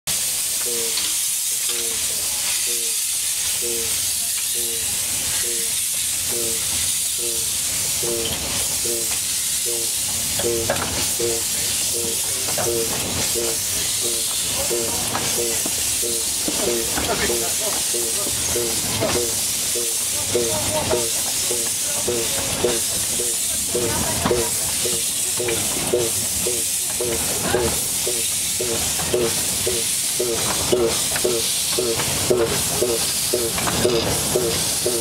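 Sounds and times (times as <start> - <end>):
steam hiss: 0.1 - 35.0
steam locomotive chuffing beat: 0.1 - 35.0.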